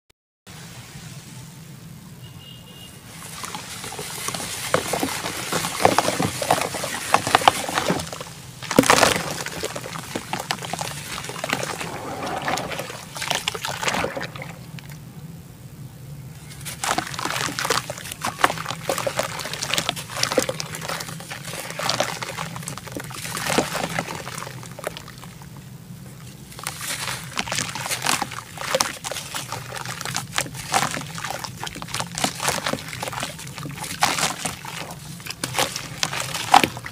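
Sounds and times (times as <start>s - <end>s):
water sloshing: 3.1s - 15.0s, 16.4s - 36.9s
dirt crunching and crumbling: 3.2s - 15.0s, 16.4s - 25.4s, 26.1s - 36.9s
dirt splashing into water: 3.2s - 15.0s, 16.4s - 25.5s, 26.4s - 36.9s.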